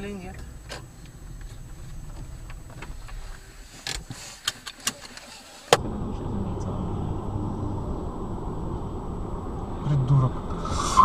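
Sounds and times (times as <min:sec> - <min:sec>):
road noise inside moving car: 0:00.0 - 0:11.0.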